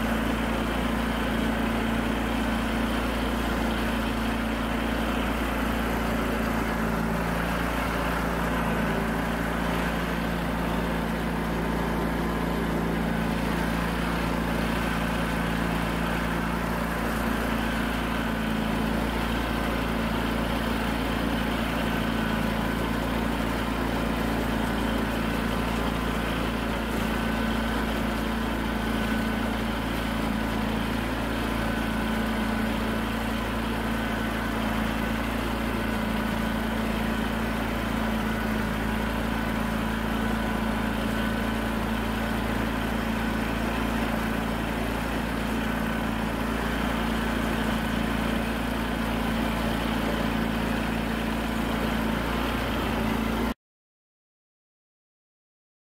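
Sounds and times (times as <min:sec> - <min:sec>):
garden tractor engine running: 0:00.0 - 0:53.6.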